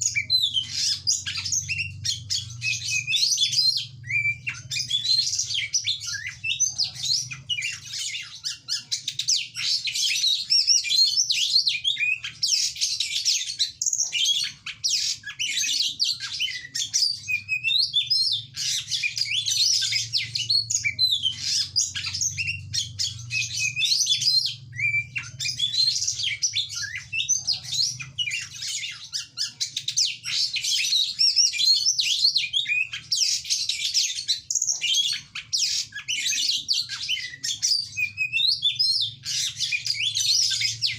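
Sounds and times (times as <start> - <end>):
songbird chirping and trilling: 0.0 - 40.9.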